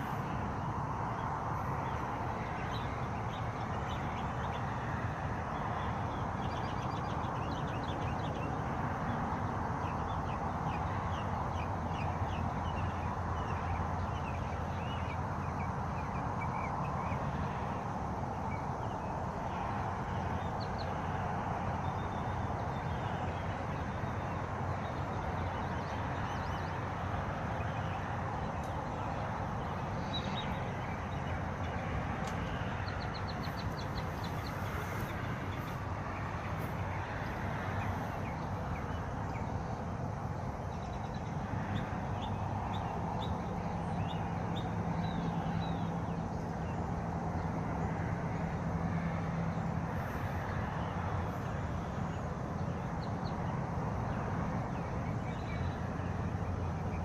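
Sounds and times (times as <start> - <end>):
birds chirping: 0.0 - 8.6, 9.7 - 47.0.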